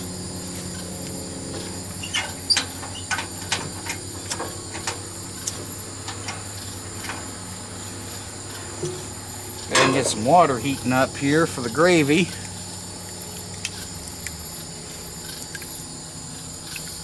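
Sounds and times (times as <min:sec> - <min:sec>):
camp stove burner hissing: 0:00.0 - 0:17.0.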